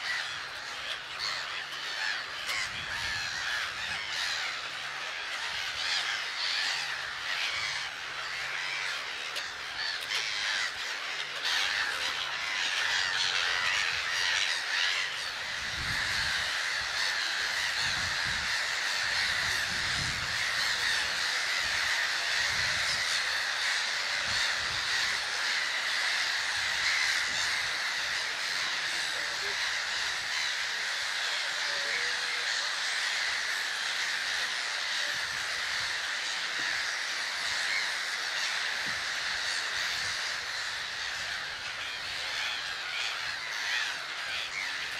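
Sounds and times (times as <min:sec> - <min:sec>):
gull colony squawking: 0:00.0 - 0:44.9.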